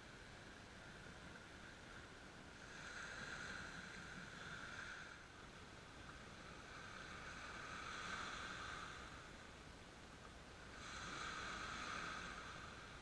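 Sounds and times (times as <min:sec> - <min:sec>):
small waves on a pebble beach: 0:00.0 - 0:09.8, 0:10.4 - 0:13.0.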